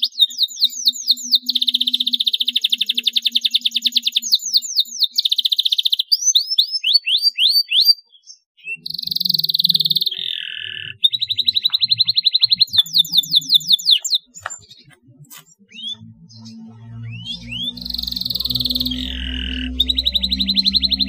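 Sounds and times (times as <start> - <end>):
canary singing: 0.0 - 21.0.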